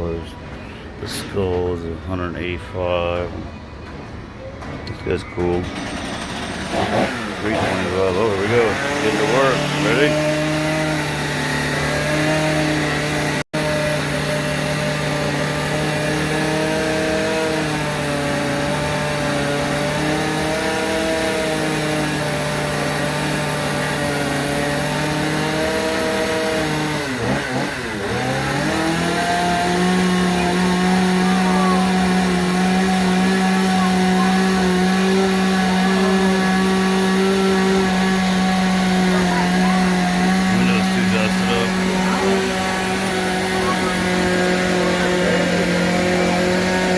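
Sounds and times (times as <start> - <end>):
chainsaw carving wood: 5.4 - 46.9.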